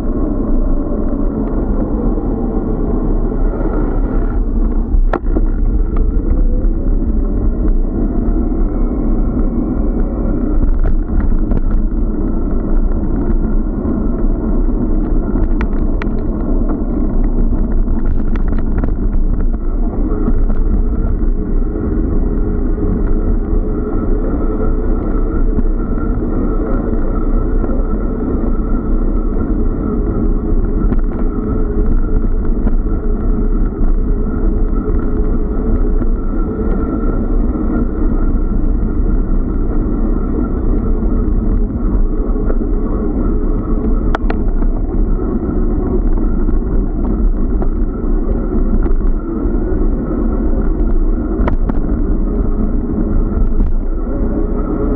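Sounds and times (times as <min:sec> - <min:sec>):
wind and ride vibration rumble: 0:00.0 - 0:54.9.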